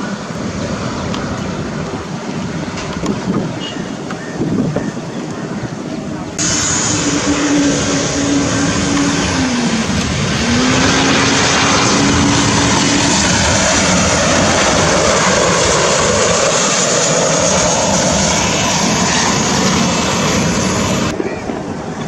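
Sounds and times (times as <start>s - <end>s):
jet airliner engine roar: 0.0s - 22.0s.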